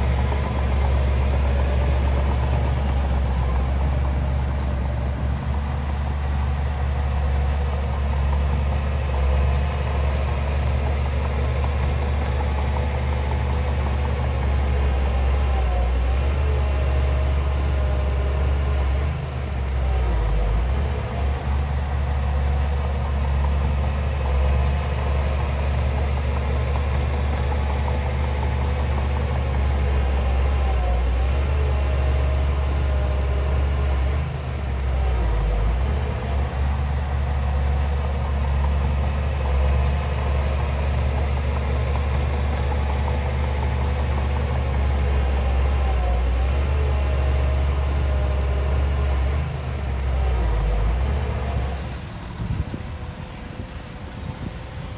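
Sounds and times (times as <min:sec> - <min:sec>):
heavy diesel engine rumbling: 0:00.0 - 0:54.9.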